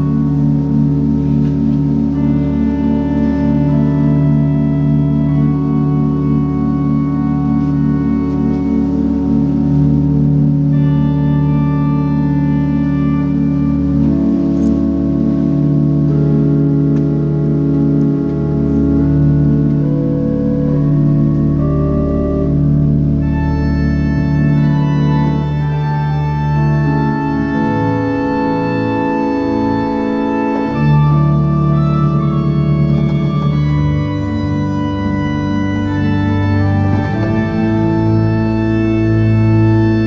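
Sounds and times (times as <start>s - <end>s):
organ chords: 0.0s - 40.0s.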